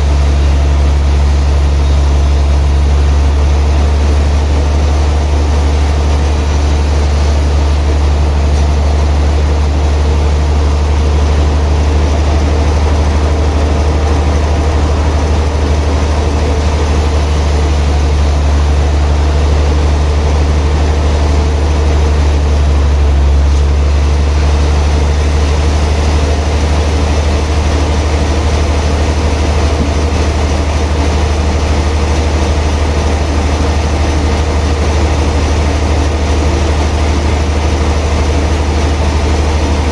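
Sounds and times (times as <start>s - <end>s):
heavy machinery deep hum: 0.0s - 39.9s.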